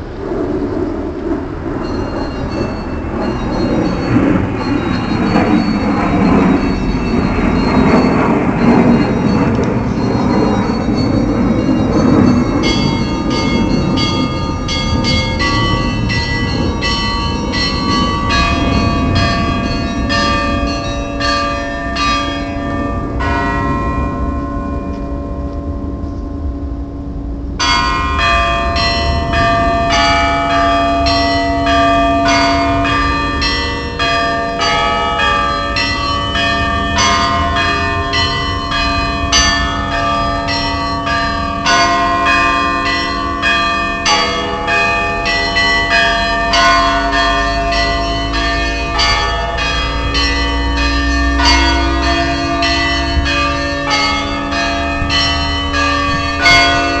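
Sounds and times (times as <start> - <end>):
low bells humming: 0.0 - 57.0
small church bells ringing: 1.1 - 57.0.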